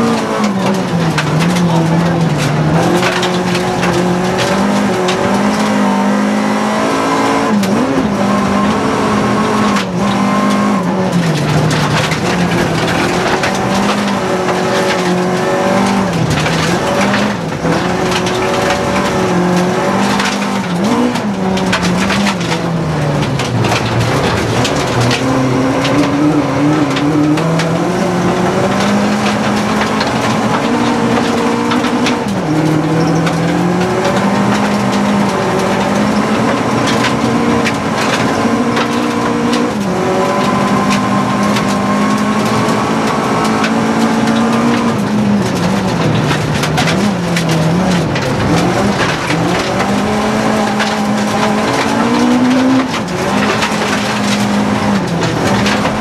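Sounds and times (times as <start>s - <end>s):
gravel rattling against car: 0.0s - 56.0s
rally car engine revving: 0.0s - 56.0s.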